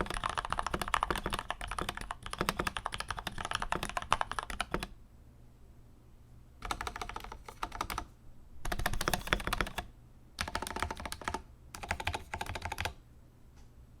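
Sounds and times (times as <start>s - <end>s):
mechanical keyboard typing: 0.0s - 4.9s, 6.6s - 13.0s.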